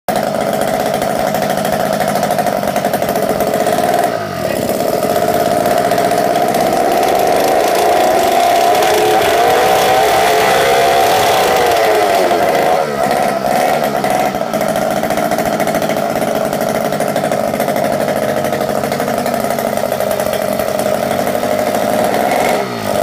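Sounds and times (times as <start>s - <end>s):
two-stroke engine running: 0.1s - 23.0s.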